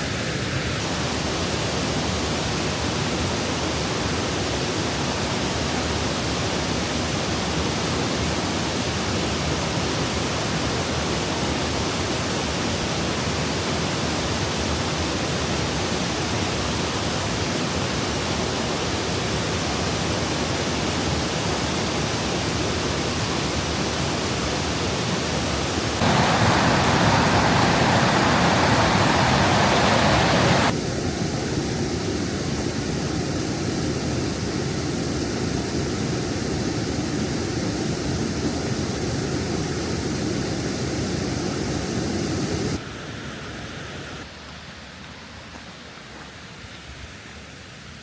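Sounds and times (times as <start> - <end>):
waterfall roar: 0.0 - 44.3.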